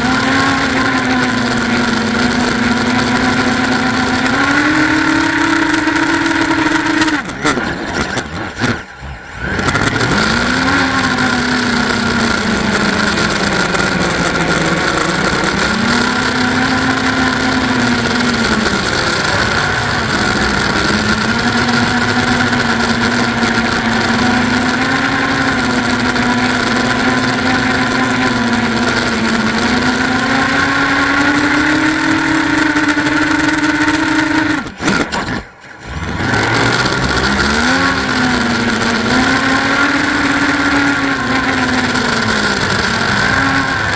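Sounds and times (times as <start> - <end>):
drone motors buzzing whine: 0.0 - 43.9.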